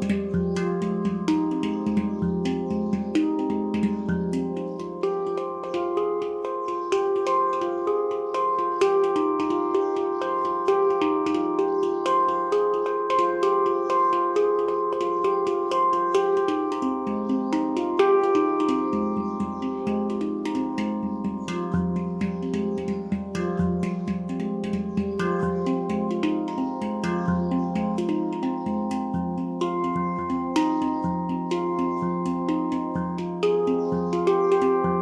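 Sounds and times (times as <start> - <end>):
handpan played by hand: 0.0 - 35.0.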